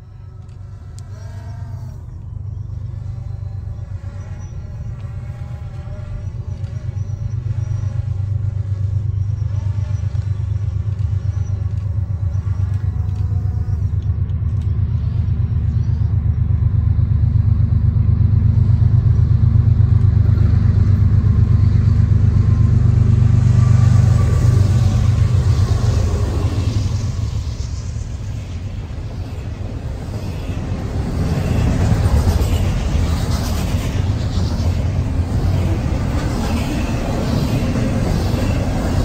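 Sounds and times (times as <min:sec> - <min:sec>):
train engine rumble: 0:00.0 - 0:39.0.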